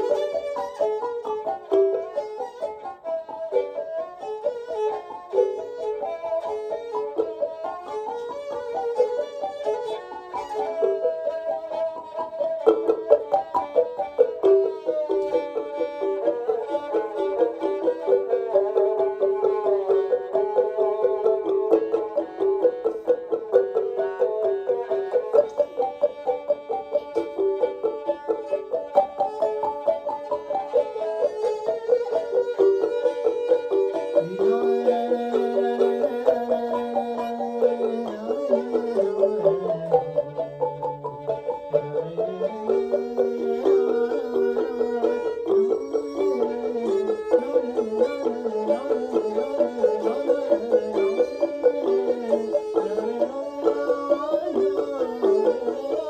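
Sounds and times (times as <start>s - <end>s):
bright plucked acoustic melody: 0.0s - 56.0s.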